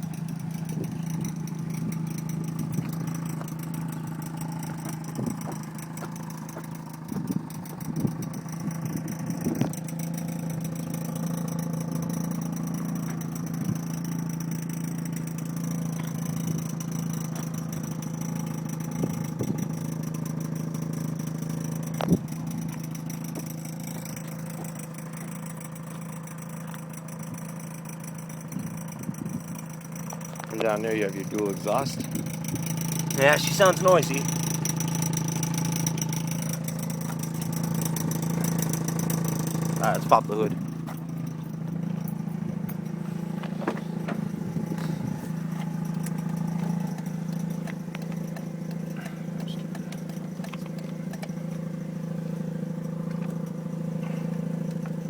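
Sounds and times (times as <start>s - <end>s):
rotary engine idling: 0.0s - 55.0s.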